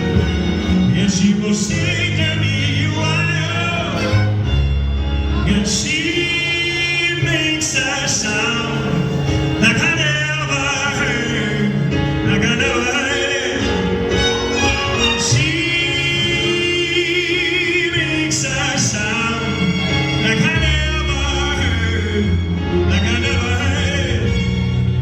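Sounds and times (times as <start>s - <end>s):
man singing: 0.0s - 4.5s, 5.3s - 25.0s
sustained strings and bass: 0.0s - 25.0s.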